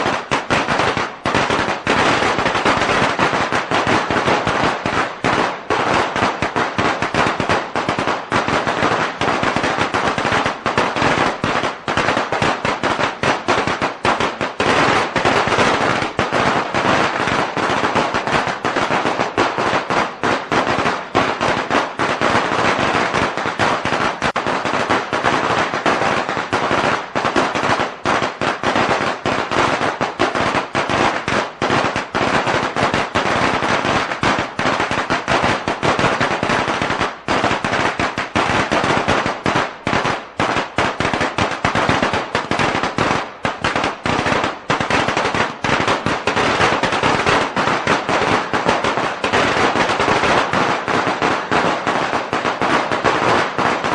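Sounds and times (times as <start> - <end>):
firecrackers rattling bangs: 0.0 - 53.9.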